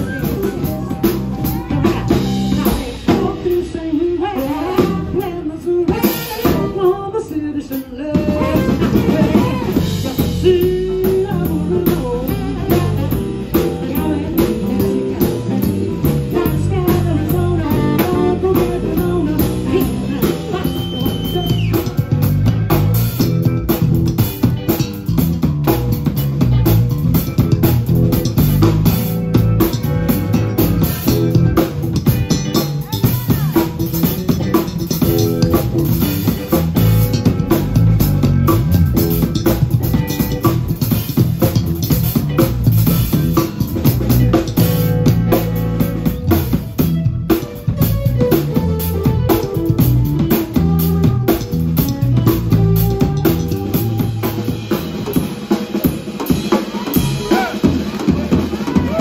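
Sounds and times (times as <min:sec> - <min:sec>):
electric bass line: 0:00.0 - 0:07.1, 0:08.0 - 0:59.0
drum kit: 0:00.0 - 0:59.0
live band playing: 0:00.0 - 0:59.0.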